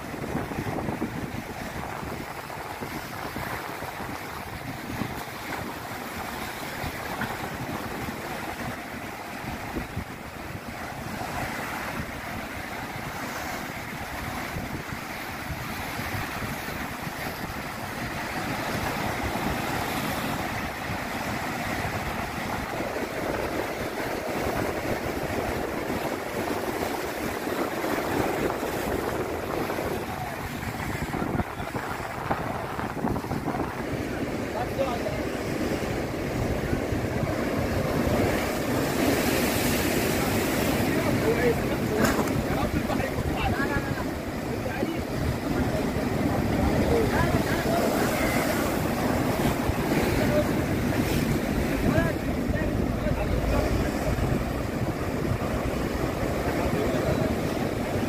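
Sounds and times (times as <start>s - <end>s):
sea surf crashing on concrete: 0.0s - 58.0s
wind buffeting microphone: 0.0s - 58.0s.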